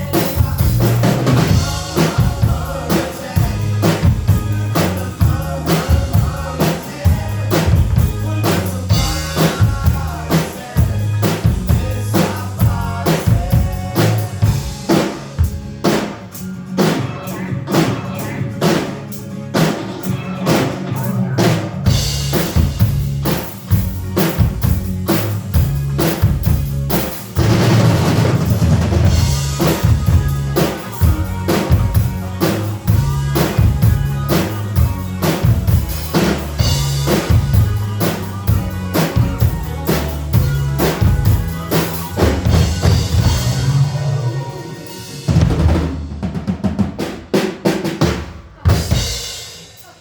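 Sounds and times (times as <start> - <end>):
drum kit playing rock beat: 0.0 - 50.0
rock backing track: 0.0 - 50.0.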